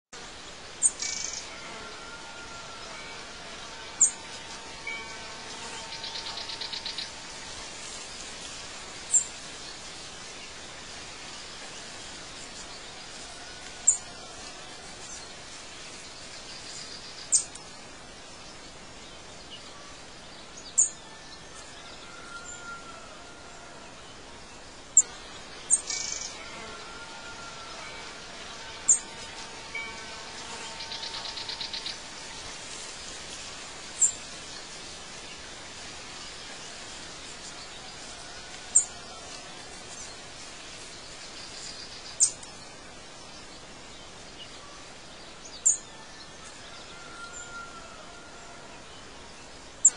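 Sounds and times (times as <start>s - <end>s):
faint steady hiss: 0.2s - 49.9s.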